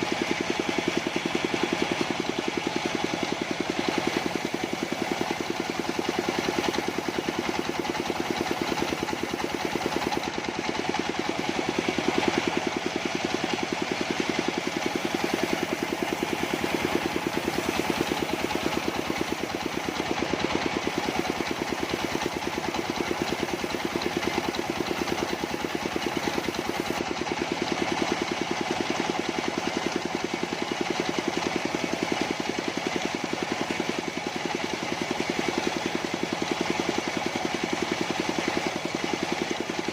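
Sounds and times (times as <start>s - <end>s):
sawmill engine chugging: 0.0s - 39.9s.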